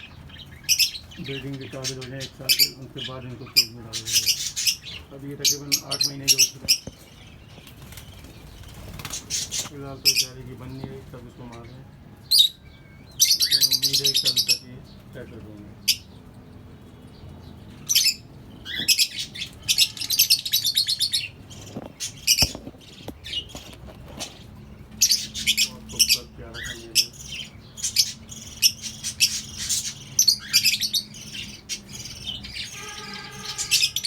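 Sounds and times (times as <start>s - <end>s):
birds chirping high-pitched: 0.0s - 34.0s.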